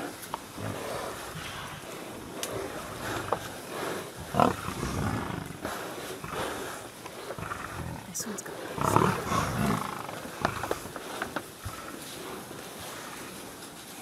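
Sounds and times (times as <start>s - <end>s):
lions growling: 0.0s - 13.7s.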